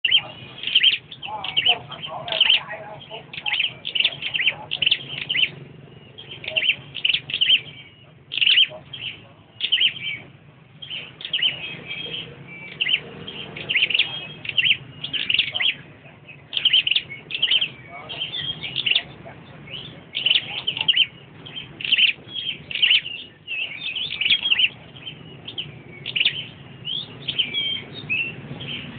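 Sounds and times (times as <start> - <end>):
birds chirping and trilling: 0.0 - 28.9.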